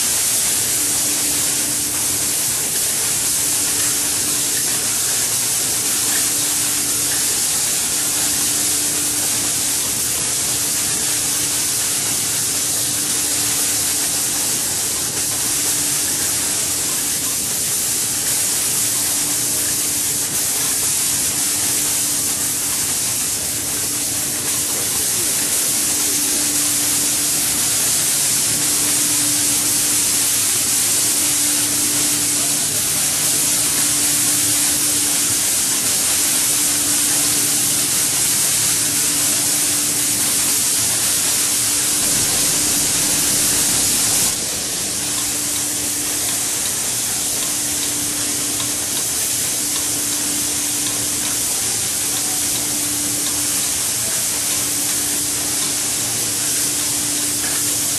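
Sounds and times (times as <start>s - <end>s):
spraying machine hissing: 0.0s - 57.9s.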